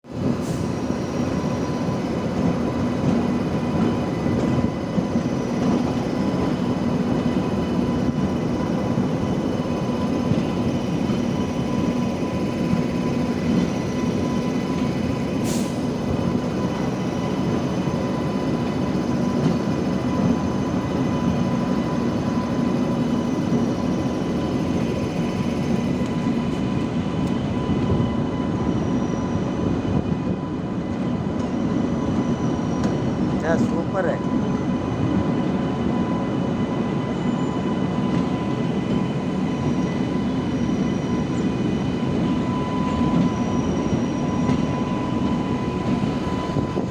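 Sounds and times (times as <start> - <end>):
train rumbling on rails: 0.0 - 46.9.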